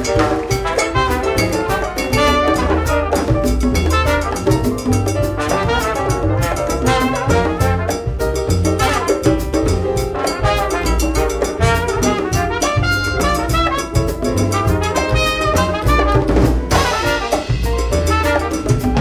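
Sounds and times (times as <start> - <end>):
jazz band playing: 0.0 - 19.0
trumpet and trombone: 0.1 - 8.2, 8.8 - 19.0.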